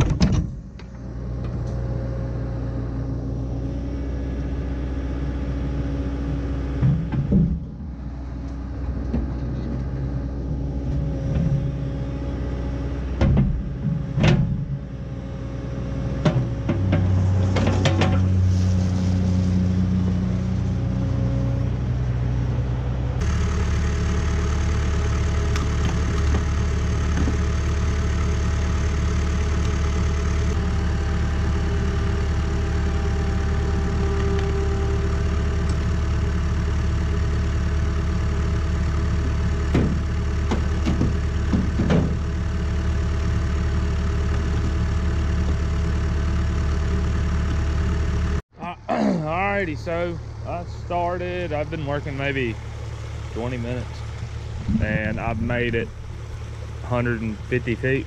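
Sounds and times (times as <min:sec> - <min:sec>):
diesel engine running: 0:00.1 - 0:58.0
steady engine hum: 0:00.5 - 0:58.0.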